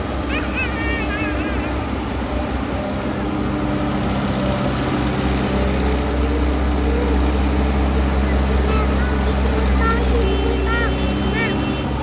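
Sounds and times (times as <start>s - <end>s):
drilling machine engine running: 1.5s - 12.0s.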